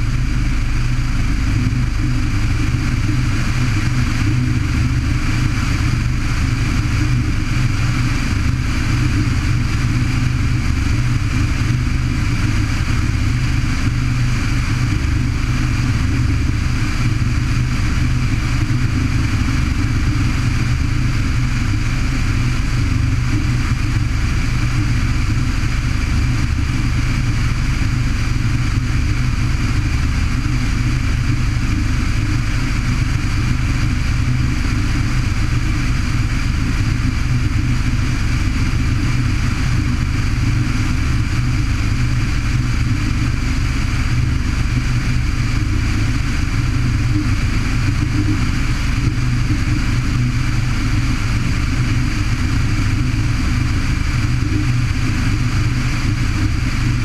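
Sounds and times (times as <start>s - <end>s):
propeller aircraft engine running: 0.0s - 57.0s.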